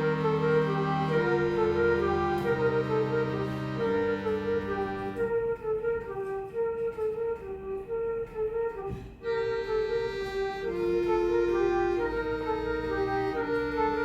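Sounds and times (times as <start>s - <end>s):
button accordion melody: 0.0s - 6.9s, 8.2s - 14.0s.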